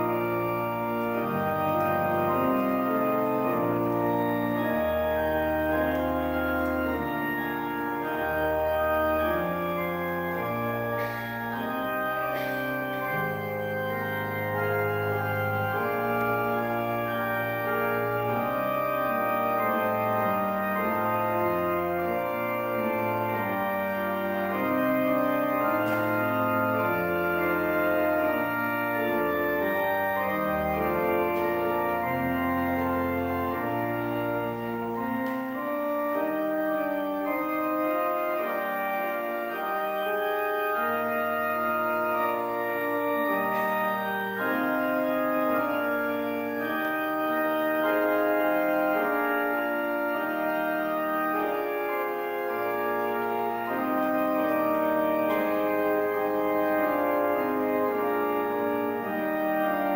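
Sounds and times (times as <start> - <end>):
deep organ pedal bass notes: 0.0 - 59.9
pipe organ chords: 0.0 - 59.9.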